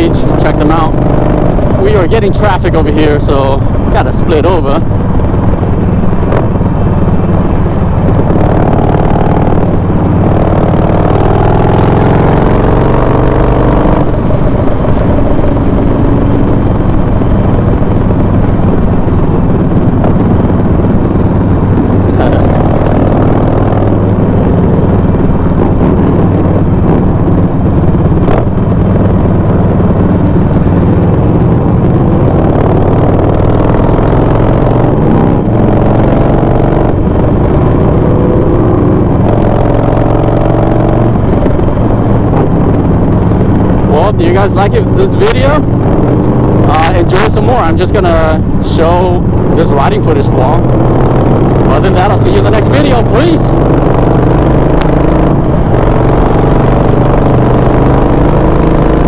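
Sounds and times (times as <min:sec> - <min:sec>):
motorcycle engine rumbling: 0:00.0 - 0:59.0
road and wind noise: 0:00.0 - 0:59.0.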